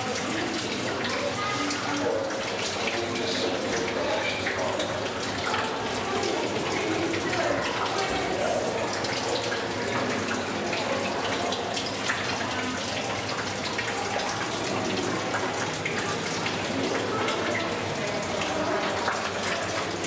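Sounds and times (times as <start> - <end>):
aquarium water rushing: 0.0 - 20.0.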